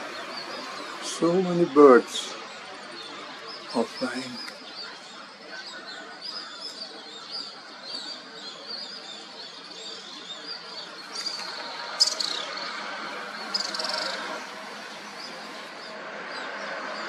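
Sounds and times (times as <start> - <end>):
birds chirping: 0.0 - 17.0
rapid buzzy bird trill: 0.0 - 17.0
steady background hiss: 0.0 - 17.0.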